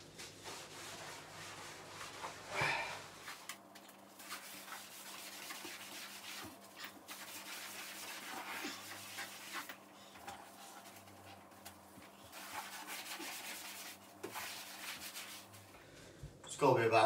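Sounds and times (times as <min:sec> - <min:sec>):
wet sponge scrubbing a wall: 0:00.0 - 0:15.8.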